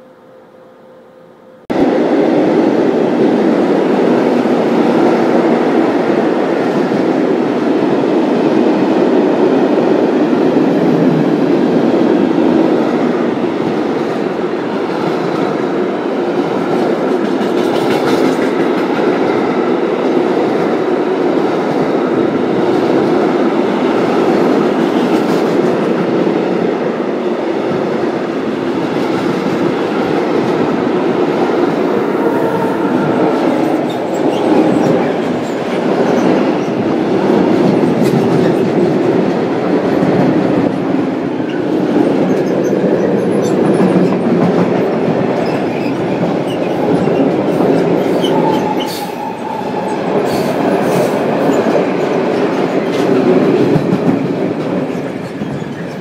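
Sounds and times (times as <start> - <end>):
freight train wheels on rails: 1.7 - 56.0.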